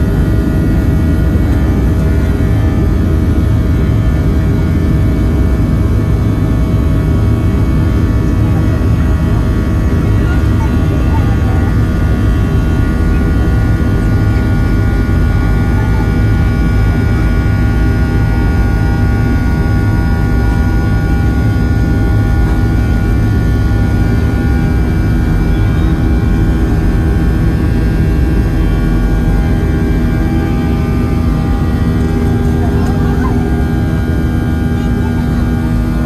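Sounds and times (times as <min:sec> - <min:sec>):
jet engines whining: 0:00.0 - 0:36.0
low rumble of rolling aircraft: 0:00.0 - 0:36.0.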